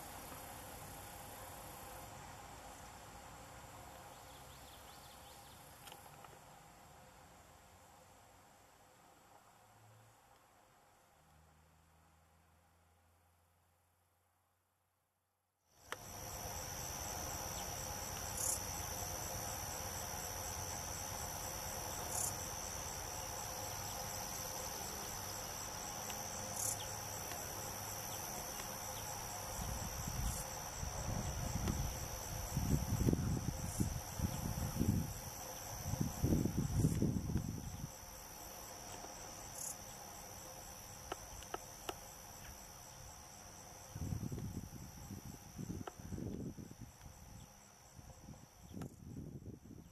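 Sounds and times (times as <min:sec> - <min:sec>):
bright insect chirp: 0:00.0 - 0:06.5, 0:15.7 - 0:49.9
insect chorus: 0:00.0 - 0:13.2, 0:15.7 - 0:49.9.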